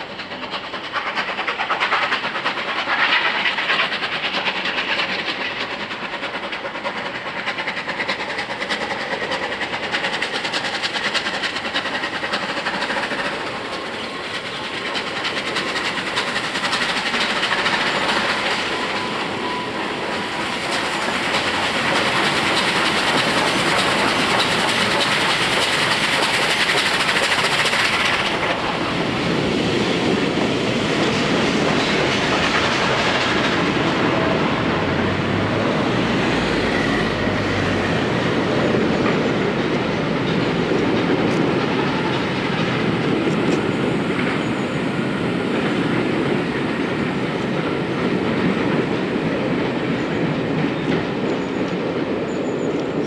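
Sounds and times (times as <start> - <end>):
loud steam hiss: 0.0 - 50.3
steam locomotive working hard: 0.0 - 53.0.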